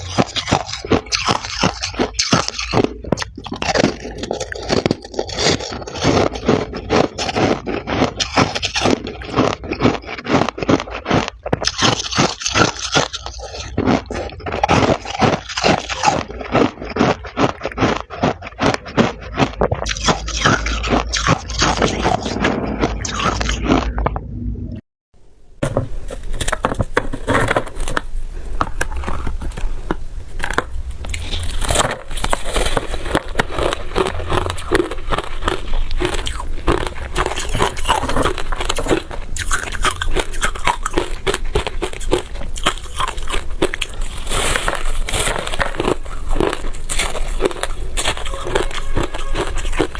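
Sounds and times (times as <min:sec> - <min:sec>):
frost being crunched and chewed: 0:00.0 - 0:24.2, 0:28.6 - 0:49.9.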